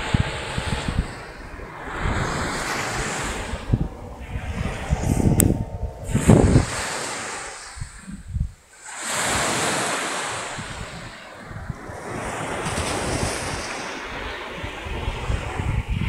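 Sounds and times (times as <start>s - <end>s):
waves washing up pebble beach: 0.0s - 8.1s, 8.7s - 15.9s
wind buffeting microphone: 0.0s - 16.0s.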